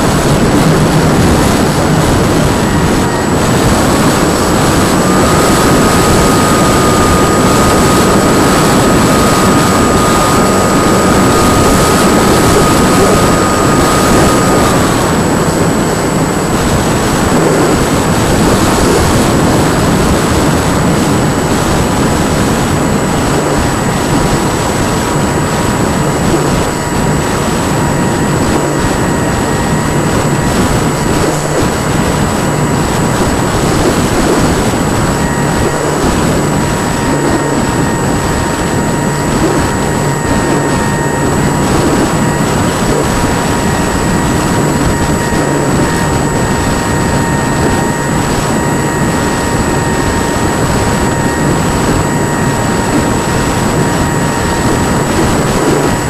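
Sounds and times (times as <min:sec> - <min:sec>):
model plane motor whining: 0:00.0 - 0:56.0
wind noise on microphone: 0:00.0 - 0:56.0.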